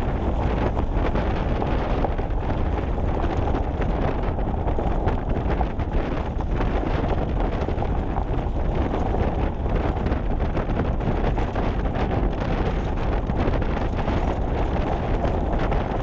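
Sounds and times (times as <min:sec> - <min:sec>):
vehicle rumbling off-road: 0:00.0 - 0:16.0
wind buffeting microphone: 0:00.0 - 0:16.0.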